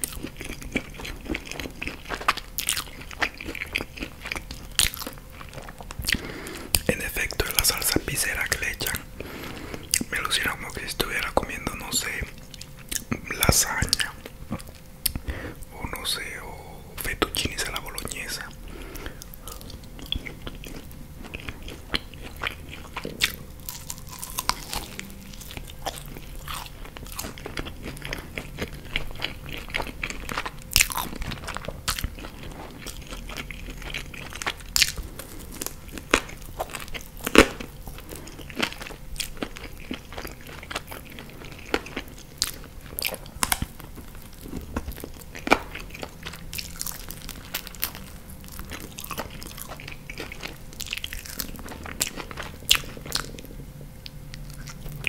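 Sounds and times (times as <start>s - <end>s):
wet chewing mouth sounds: 0.0s - 55.0s.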